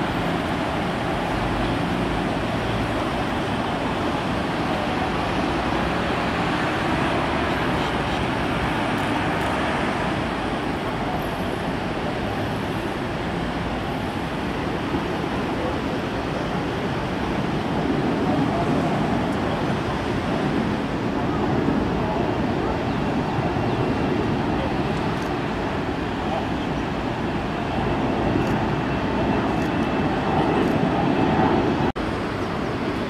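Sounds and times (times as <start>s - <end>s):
distant jet airliners roaring: 0.0s - 33.0s.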